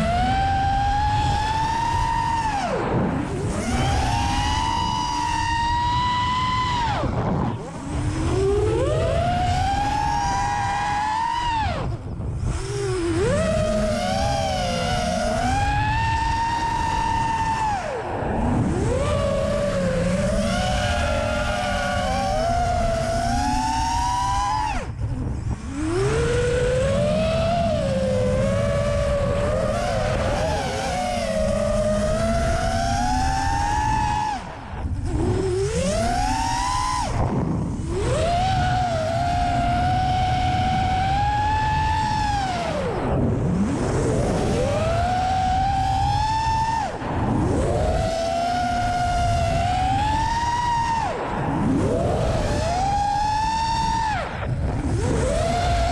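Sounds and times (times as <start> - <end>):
drone motors whining: 0.0 - 55.9
low rumble of air noise: 0.0 - 55.9
low rushing noise: 0.0 - 55.9.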